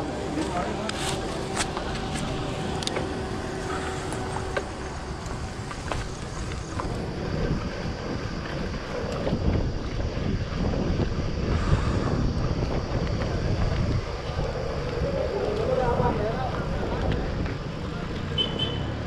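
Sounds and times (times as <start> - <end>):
wind buffeting microphone: 0.0 - 18.4
bicycle tyres on rough road: 0.0 - 19.0.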